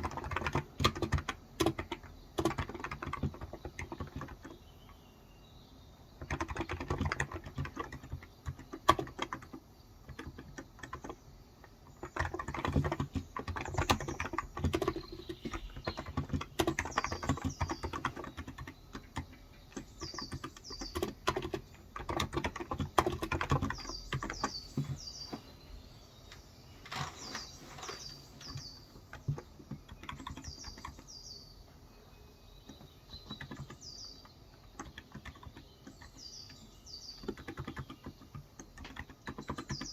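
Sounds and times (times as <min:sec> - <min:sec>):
typing on a keyboard: 0:00.0 - 0:05.1, 0:06.2 - 0:25.0, 0:26.9 - 0:31.2, 0:32.6 - 0:39.9
bird chirping: 0:00.0 - 0:39.9.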